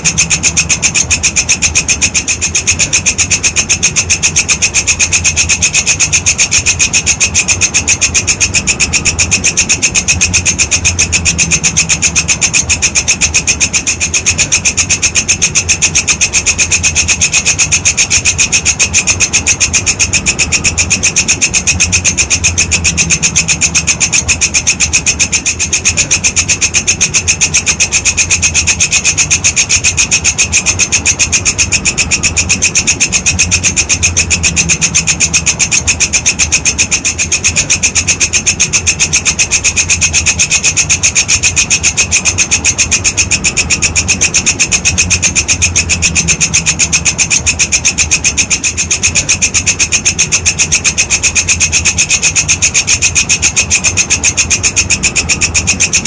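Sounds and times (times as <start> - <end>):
insect rasping chirp: 0.0 - 56.0.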